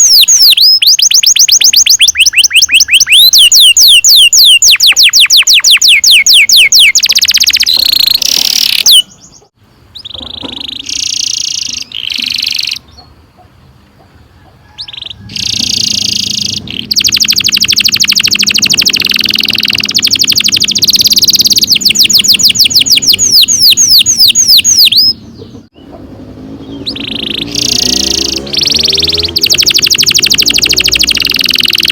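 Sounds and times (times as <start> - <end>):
canary singing trills: 0.0 - 31.9.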